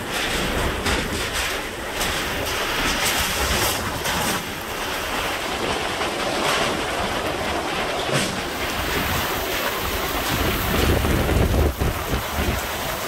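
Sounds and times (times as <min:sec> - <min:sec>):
driving rain: 0:00.0 - 0:13.0
hurricane wind gusts: 0:00.0 - 0:13.0
wind buffeting microphone: 0:00.0 - 0:13.0.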